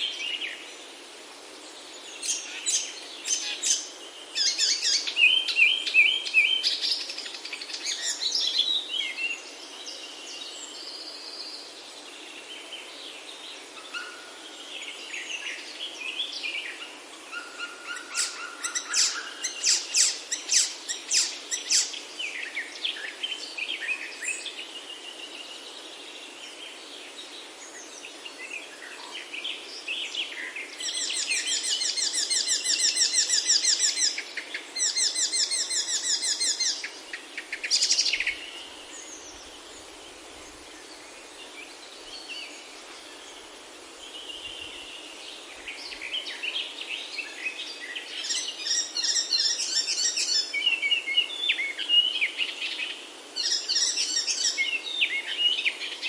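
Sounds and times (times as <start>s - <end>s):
birds singing and calling: 0.0s - 56.0s.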